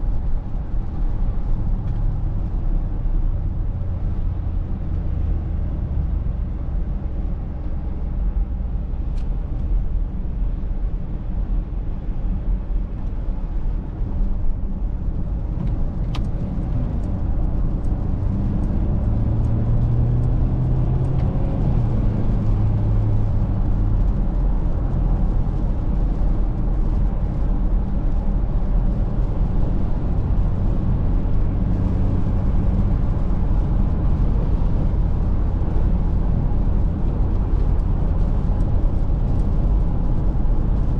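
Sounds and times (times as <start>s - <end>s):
car road rumble: 0.0s - 40.9s.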